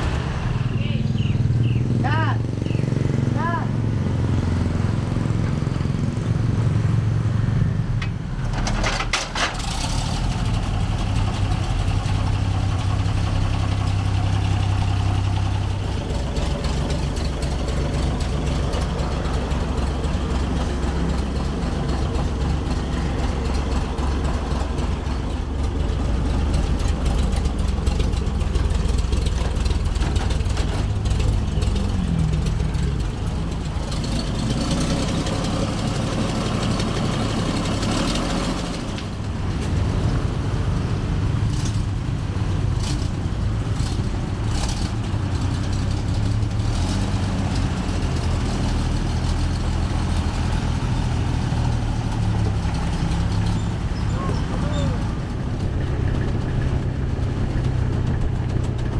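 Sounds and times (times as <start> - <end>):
truck engine idling: 3.7 - 58.9.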